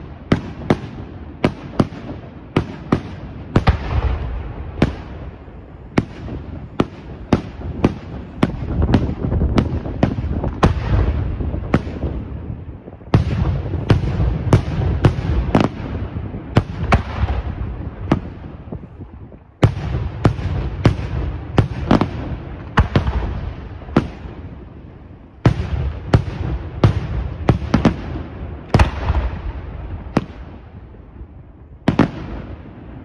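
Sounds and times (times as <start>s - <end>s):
fireworks bursting with sharp bangs: 0.0s - 33.0s.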